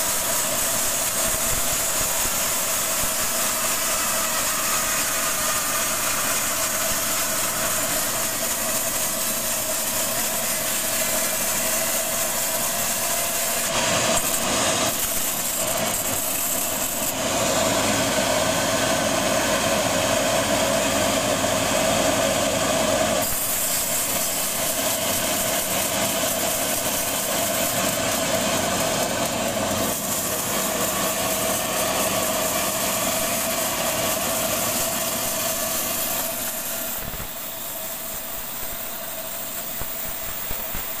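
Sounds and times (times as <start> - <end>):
band saw cutting wood: 0.0 - 41.0.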